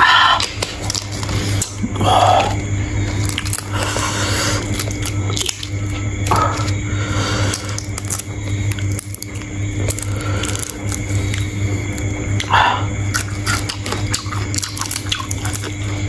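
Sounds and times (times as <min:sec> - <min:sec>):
chewing shrimp shells: 0:00.4 - 0:01.8, 0:02.4 - 0:06.8, 0:07.4 - 0:12.5, 0:13.1 - 0:16.0.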